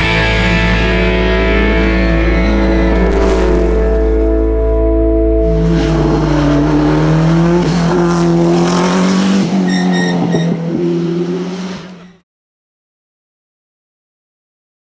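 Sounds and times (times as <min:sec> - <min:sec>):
rally car engine revving: 0:00.0 - 0:12.2.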